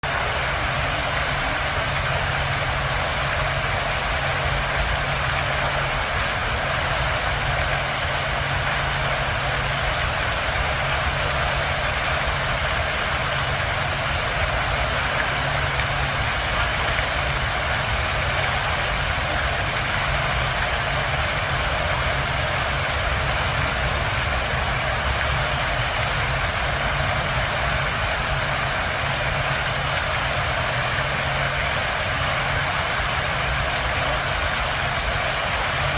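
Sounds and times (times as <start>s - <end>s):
fountain water splashing: 0.0s - 35.9s.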